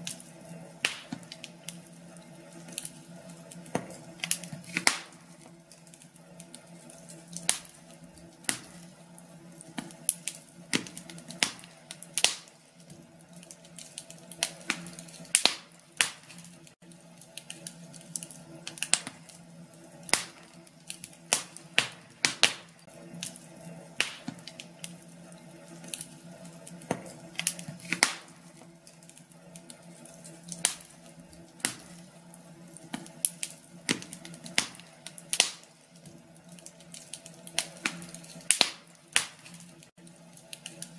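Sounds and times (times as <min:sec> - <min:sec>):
fire crackling in fireplace: 0:00.0 - 0:40.9.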